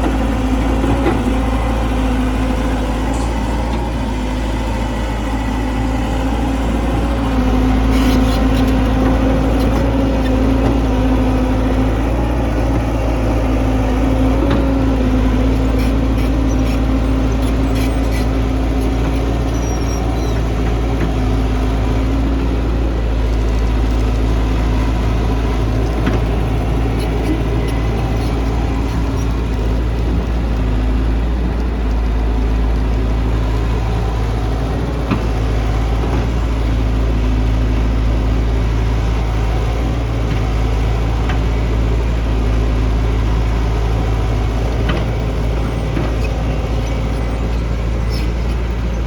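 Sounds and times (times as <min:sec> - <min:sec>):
diesel engine rumbling: 0:00.0 - 0:49.0.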